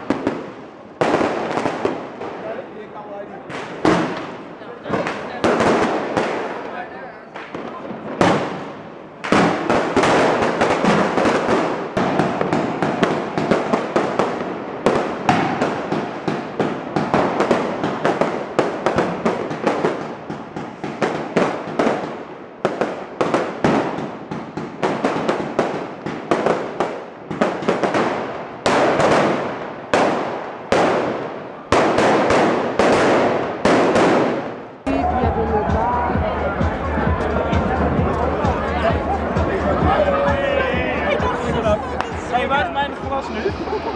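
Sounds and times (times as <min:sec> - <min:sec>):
fireworks and firecrackers banging: 0:00.0 - 0:43.9.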